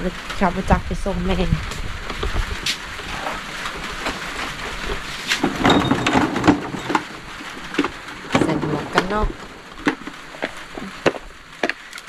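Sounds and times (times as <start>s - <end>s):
rain on a metal roof: 0.0s - 12.0s
objects knocking and clattering: 2.0s - 12.0s.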